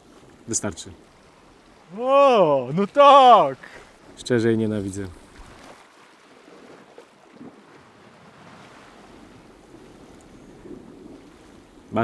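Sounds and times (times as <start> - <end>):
waves washing against shore: 0.0 - 12.0
wind: 0.0 - 12.0.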